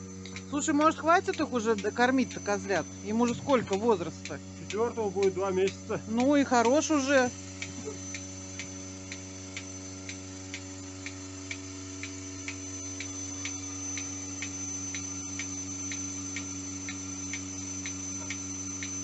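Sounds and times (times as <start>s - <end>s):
milking machine pump hum: 0.0s - 19.0s
pulsator clicking: 0.0s - 19.0s.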